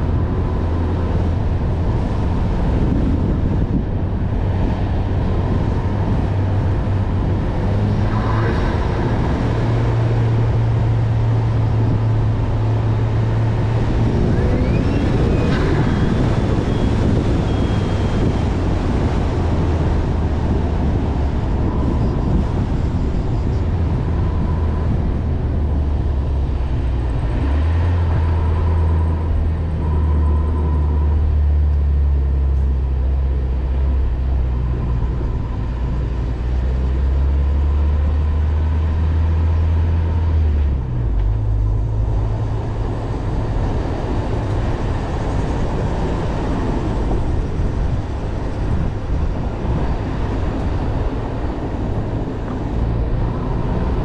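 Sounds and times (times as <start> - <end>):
car engine droning at speed: 0.0 - 54.0
tyre and road noise: 0.0 - 54.0.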